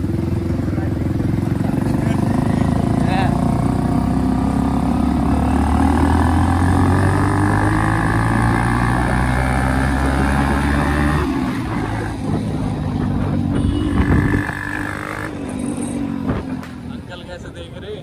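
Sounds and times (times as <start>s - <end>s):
motorcycle engine running loud: 0.0s - 17.3s.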